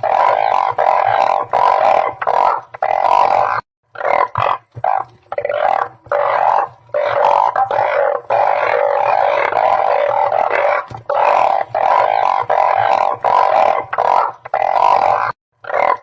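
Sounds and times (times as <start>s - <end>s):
frogs calling: 0.0s - 16.0s.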